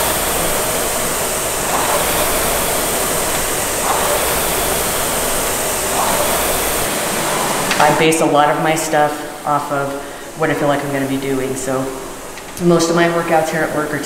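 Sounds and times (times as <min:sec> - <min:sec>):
rowing machine fan whooshing: 0:00.0 - 0:14.0.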